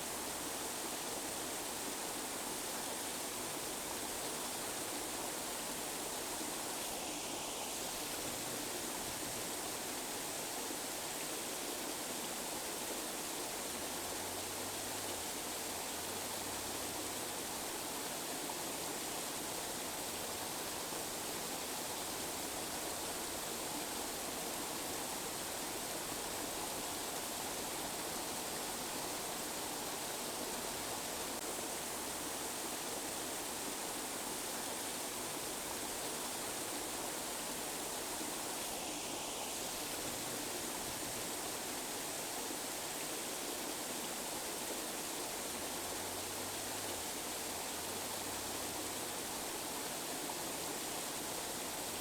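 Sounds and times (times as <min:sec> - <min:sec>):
steady broadband hiss: 0:00.0 - 0:52.0.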